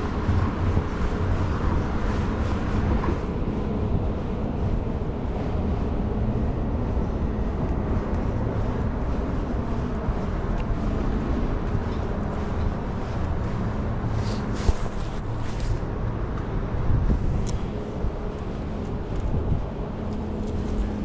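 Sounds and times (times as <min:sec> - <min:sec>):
city traffic rumble: 0:00.0 - 0:21.0
faint engine hum: 0:00.0 - 0:21.0.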